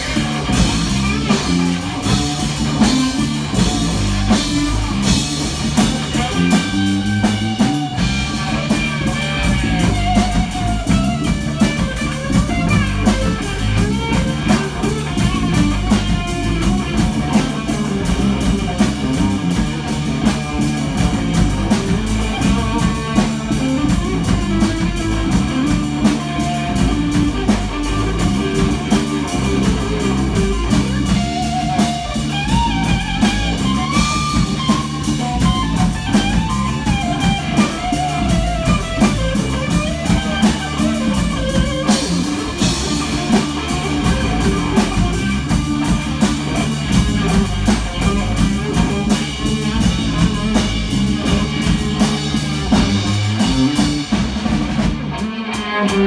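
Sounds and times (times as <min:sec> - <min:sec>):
guitar: 0:00.0 - 0:56.0
rock band playing: 0:00.0 - 0:56.0
steady drum kit beat: 0:00.0 - 0:56.0.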